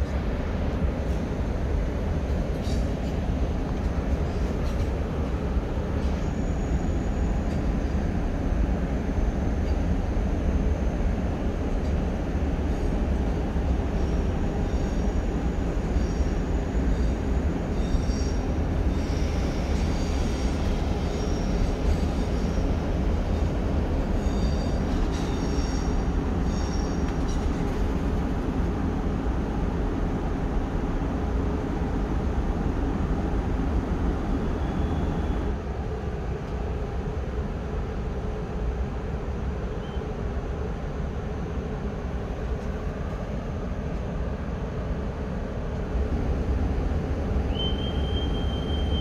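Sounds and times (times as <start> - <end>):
electric locomotive machinery hum: 0.0 - 49.0.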